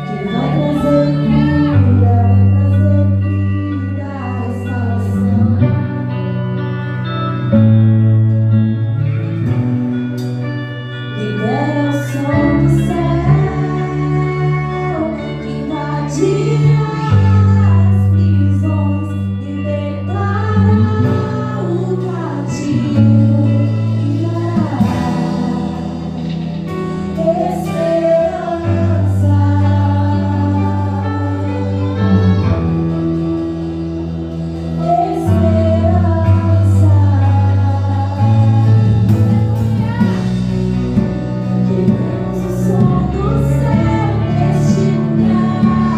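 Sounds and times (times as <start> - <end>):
person singing: 0.0 - 7.6, 10.7 - 45.9
bass and keyboard chords: 0.0 - 45.9
guitar: 0.0 - 45.9.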